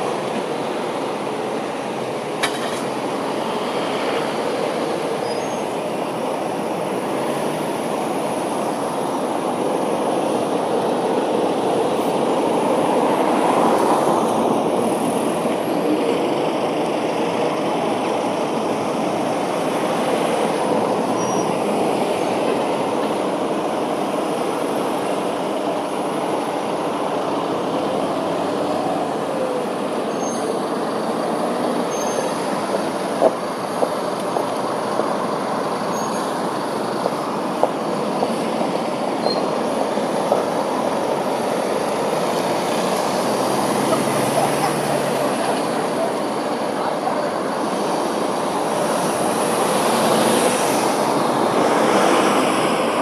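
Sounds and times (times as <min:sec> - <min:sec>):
street traffic: 0:00.0 - 0:53.0.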